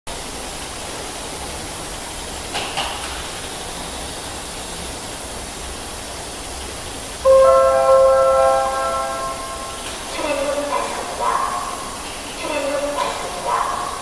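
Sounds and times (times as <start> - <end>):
train and station hum: 0.1 - 14.0.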